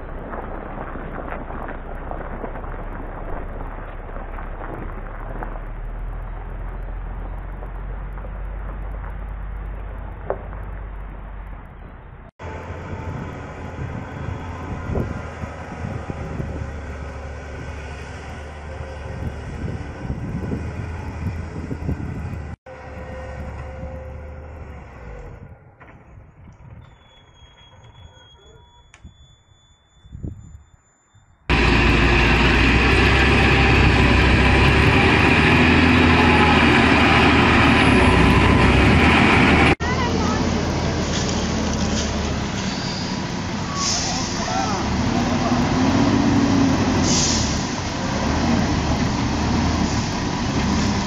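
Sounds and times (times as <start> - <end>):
heavy truck engines under load: 0.0 - 51.0.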